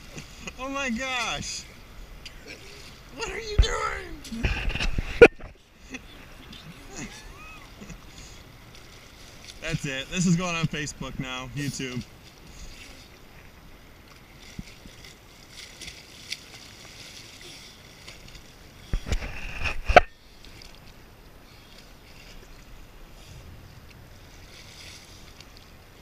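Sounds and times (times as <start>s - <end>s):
splashing: 0.0s - 26.0s
water lapping against hull: 0.0s - 26.0s.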